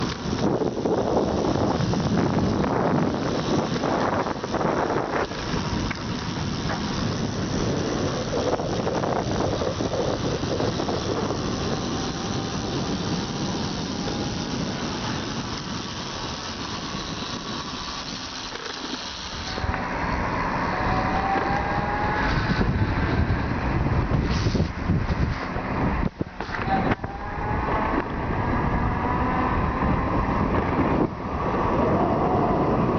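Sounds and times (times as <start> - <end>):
electric moped running: 0.0 - 32.9
motor whine: 0.0 - 32.9
wind and road noise: 0.0 - 32.9.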